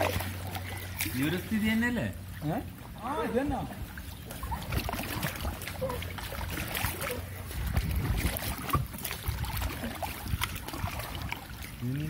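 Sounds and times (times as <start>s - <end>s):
low rumbling water: 0.0s - 12.0s
water lapping against hull: 0.0s - 12.0s.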